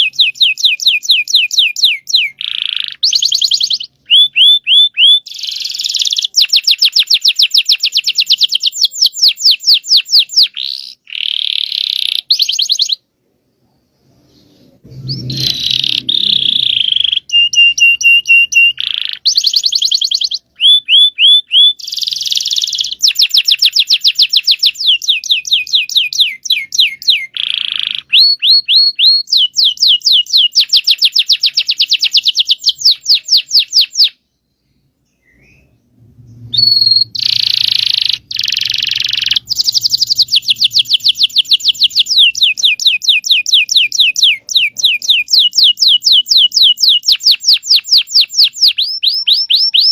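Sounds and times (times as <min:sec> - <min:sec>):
canary singing trills: 0:00.0 - 0:13.0, 0:14.1 - 0:49.9.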